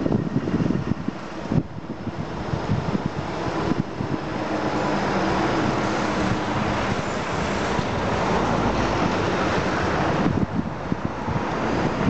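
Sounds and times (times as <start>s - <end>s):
excavator diesel engine and hydraulics: 0.0s - 12.0s
wind noise on microphone: 0.0s - 12.0s.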